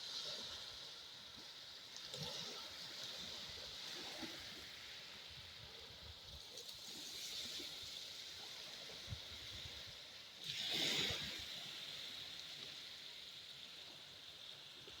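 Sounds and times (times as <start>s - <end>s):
waves washing onto sand: 0.0s - 15.0s.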